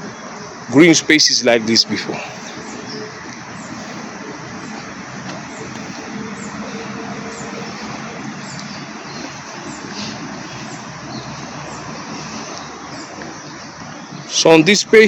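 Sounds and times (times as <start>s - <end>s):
city road traffic drone: 0.0s - 15.0s.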